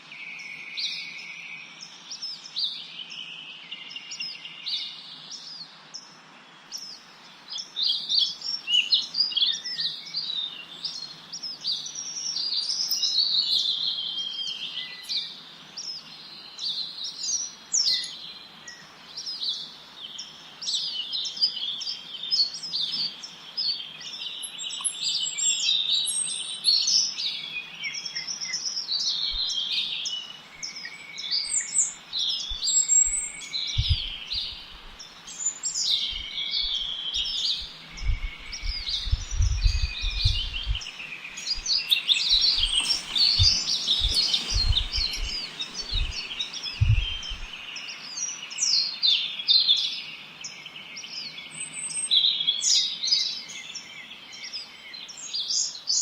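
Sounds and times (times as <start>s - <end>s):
faint steady hiss: 0.0s - 55.9s
small birds chirping: 0.0s - 56.0s.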